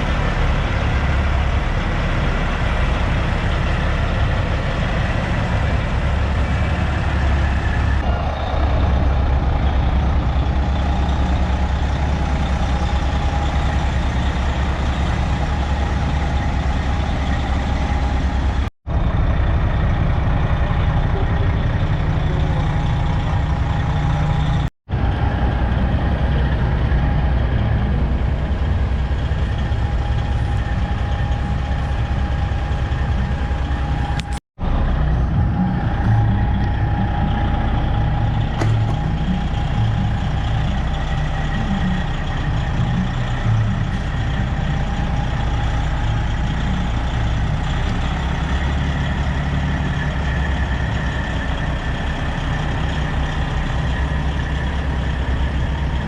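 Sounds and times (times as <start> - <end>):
diesel truck engines running: 0.0 - 56.0.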